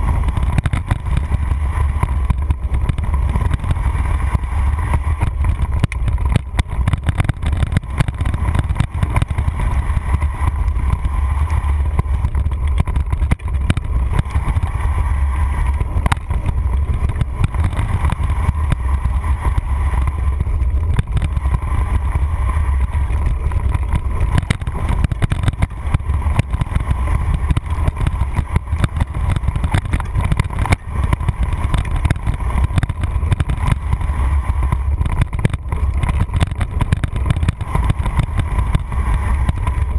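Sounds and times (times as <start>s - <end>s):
bike rattling and knocking: 0.0s - 39.9s
wind and tyre rumble: 0.0s - 39.9s.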